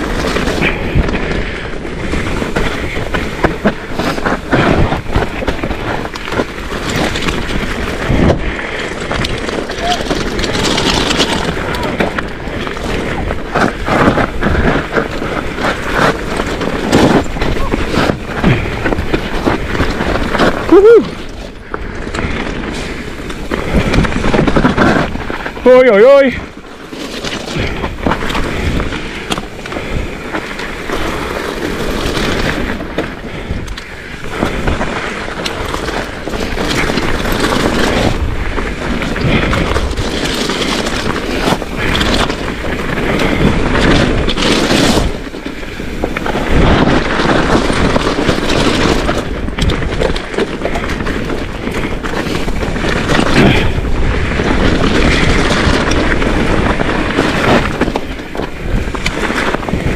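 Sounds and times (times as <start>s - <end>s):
bike rattling over bumps: 0.0s - 59.9s
bike tyres skidding over shale: 0.0s - 59.9s
wind buffeting microphone: 0.0s - 59.9s.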